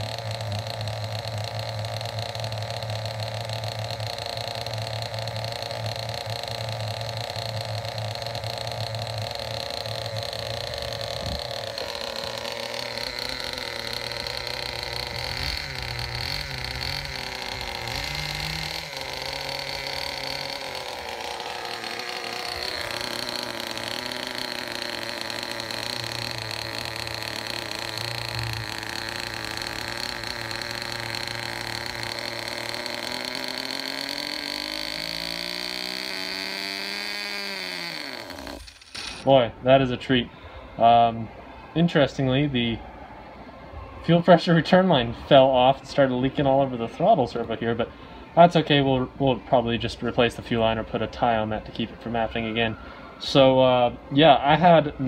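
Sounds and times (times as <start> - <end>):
small nitro engine running: 0.0 - 42.8, 44.1 - 55.0.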